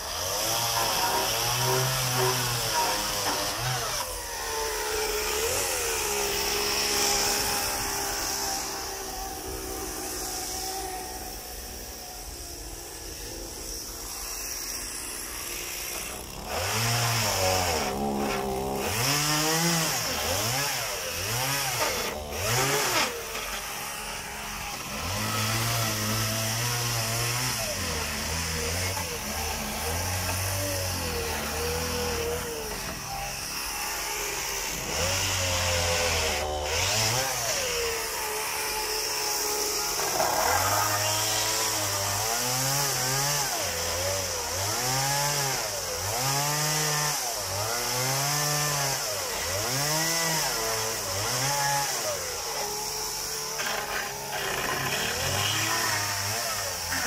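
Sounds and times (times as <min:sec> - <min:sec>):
chainsaw cutting wooden boards: 0:00.0 - 0:57.0
chainsaw idling and revving: 0:00.0 - 0:57.0.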